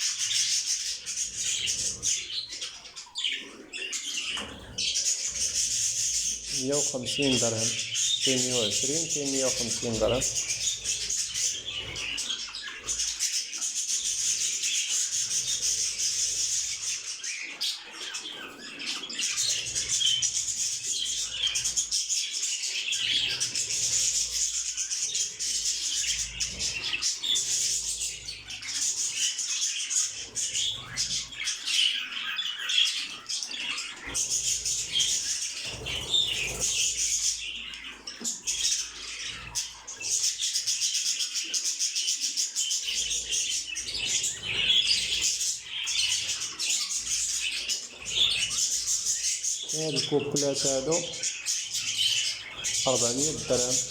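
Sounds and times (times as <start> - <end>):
caged birds chirping: 0.0 - 53.9.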